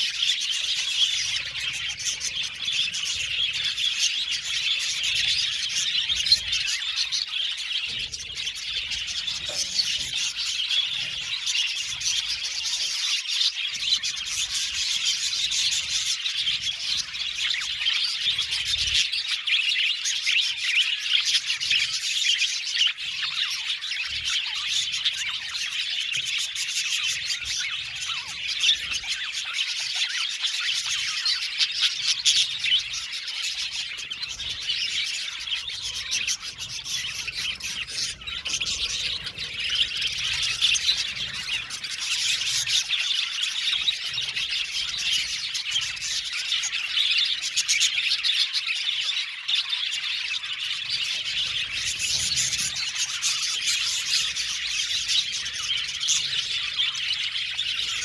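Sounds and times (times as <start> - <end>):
bird squawks: 0.0 - 58.0
budgerigars chirping: 0.0 - 58.0.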